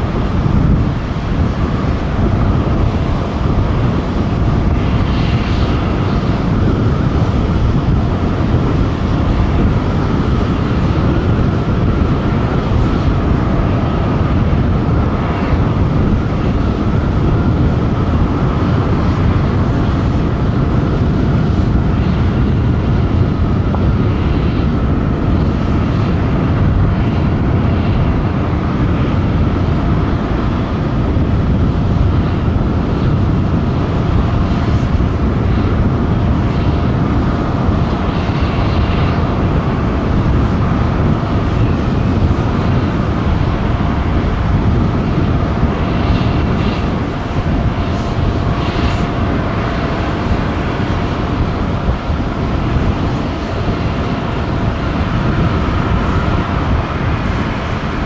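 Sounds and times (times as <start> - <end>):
faint jet engine whine: 0.0 - 58.0
jet engine rumble: 0.0 - 58.0.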